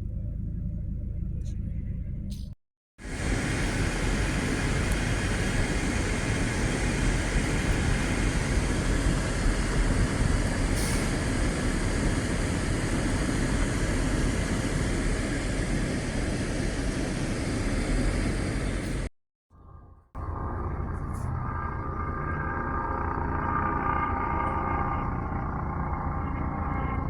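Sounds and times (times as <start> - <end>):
loud engine rumbling: 0.0 - 27.0.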